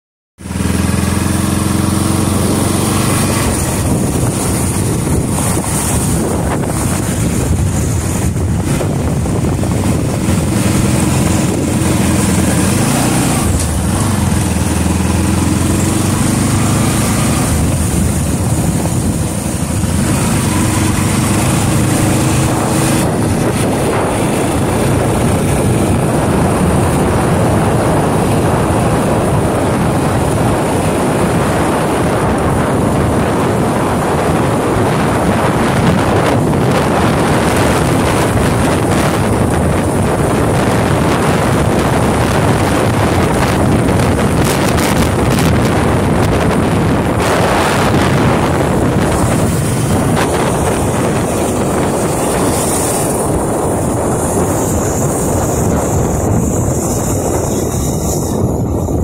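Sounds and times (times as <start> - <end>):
motorcycle engine revving: 0.4 - 59.0
wind buffeting microphone: 0.4 - 59.0.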